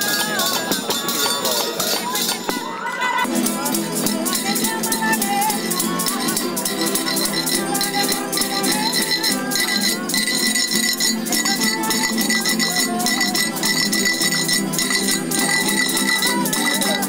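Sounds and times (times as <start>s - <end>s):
glass bottle scraped rhythmically: 0.0s - 17.0s
strummed guitars and lutes: 0.0s - 17.0s.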